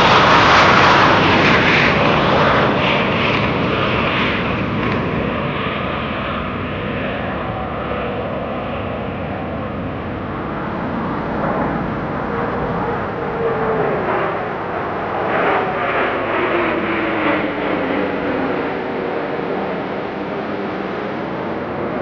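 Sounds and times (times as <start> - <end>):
jet aircraft passing overhead: 0.0 - 22.0.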